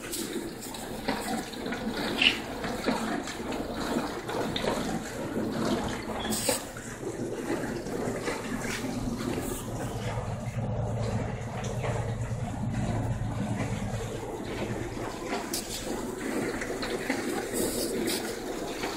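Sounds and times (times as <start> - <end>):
dishwasher water rushing and splashing: 0.0 - 18.9.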